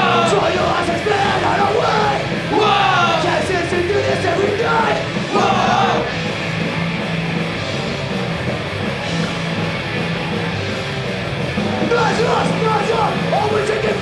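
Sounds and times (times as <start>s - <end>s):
punk rock band playing live: 0.0s - 14.0s.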